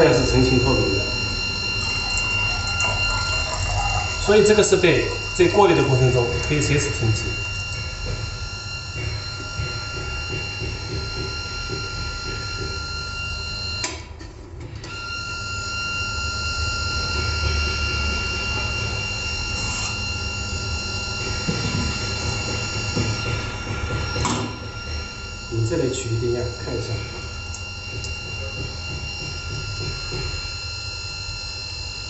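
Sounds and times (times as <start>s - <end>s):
electric pump humming: 0.0s - 32.0s.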